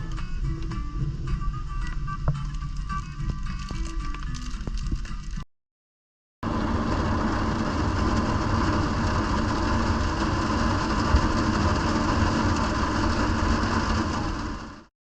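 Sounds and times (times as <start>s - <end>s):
vehicle engine and road noise: 0.0s - 5.4s, 6.4s - 14.9s.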